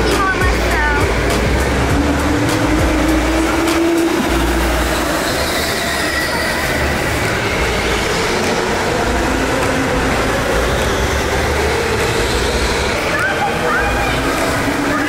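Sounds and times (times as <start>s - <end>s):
go-kart engines rumbling: 0.0s - 15.0s.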